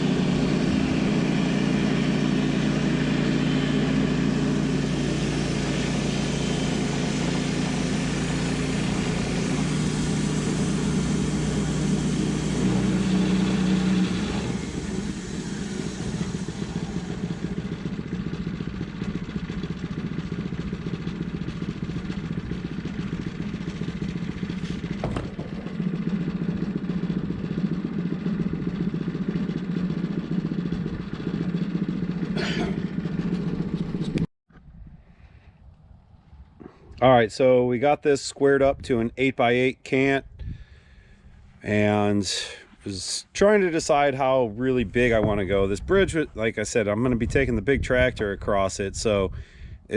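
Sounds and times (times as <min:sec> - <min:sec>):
sawmill engine and blade sawing log: 0:00.0 - 0:34.3, 0:40.5 - 0:49.3.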